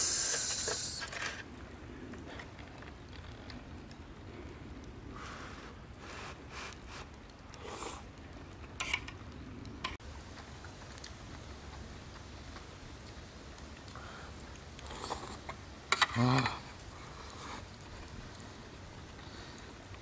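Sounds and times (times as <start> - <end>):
low steady background noise: 0.0 - 20.0.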